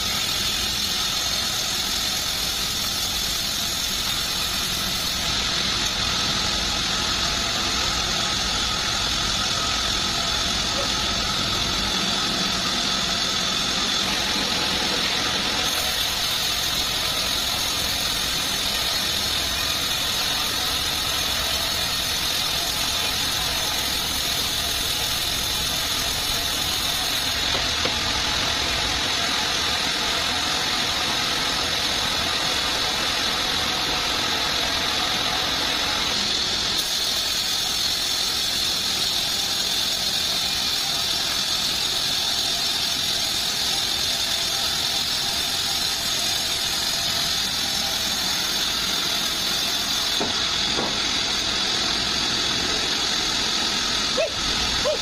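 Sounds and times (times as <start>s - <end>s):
bandsaw sawmill running: 0.0s - 55.0s.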